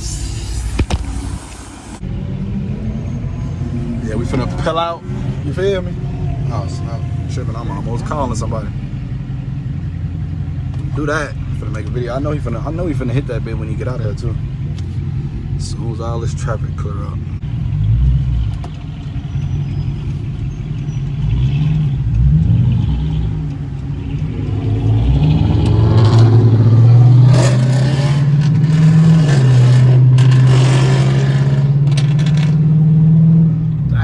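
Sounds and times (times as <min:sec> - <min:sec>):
car engine accelerating hard: 0:00.0 - 0:34.0.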